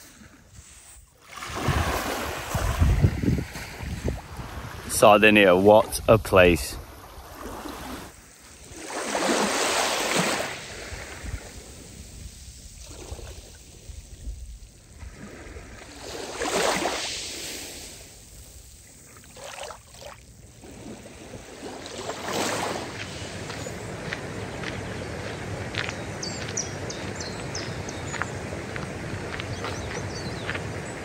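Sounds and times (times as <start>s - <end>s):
small waves washing on beach: 0.0s - 31.0s.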